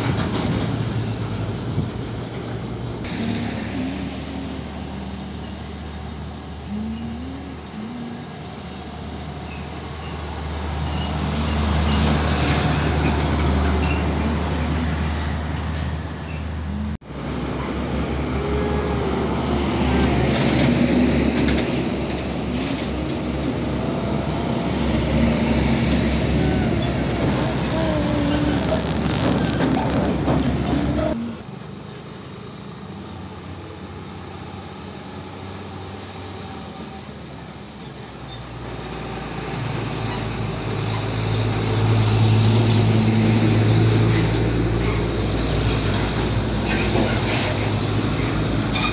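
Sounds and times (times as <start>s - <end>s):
diesel truck passing by: 0.0s - 48.9s.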